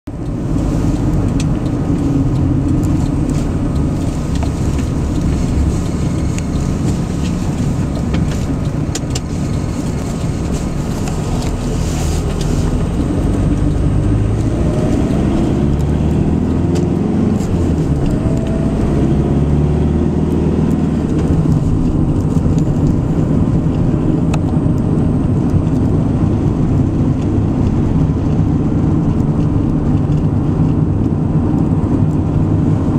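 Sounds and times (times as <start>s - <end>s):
car engine and tyre rumble: 0.0s - 32.9s.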